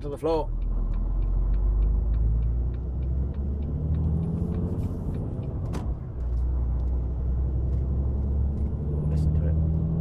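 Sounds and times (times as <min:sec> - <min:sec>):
truck diesel engine accelerating: 0:00.0 - 0:10.0.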